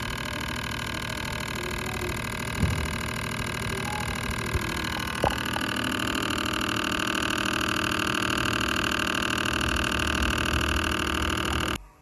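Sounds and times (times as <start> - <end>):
refrigerator fan motor whine: 0.0 - 11.8.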